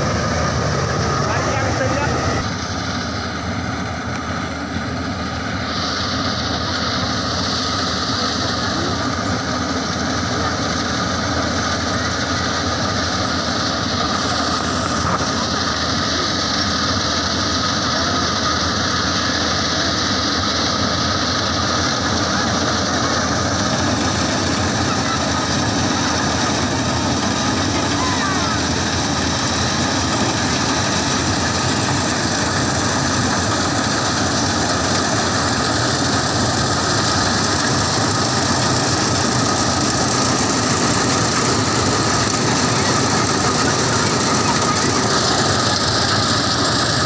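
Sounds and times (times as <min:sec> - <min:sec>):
combine harvester running: 0:00.0 - 0:47.0.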